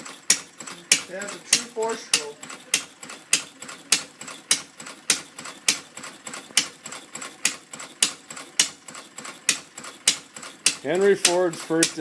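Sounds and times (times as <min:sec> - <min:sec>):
engine clatter: 0:00.0 - 0:12.0
single-cylinder engine puttering: 0:00.0 - 0:12.0.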